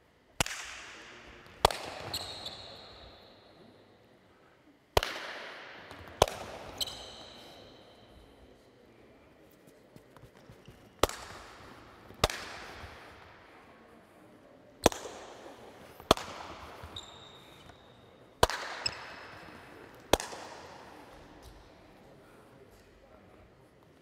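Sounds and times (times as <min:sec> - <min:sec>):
ball impacts echoing in hall: 0:00.0 - 0:24.0.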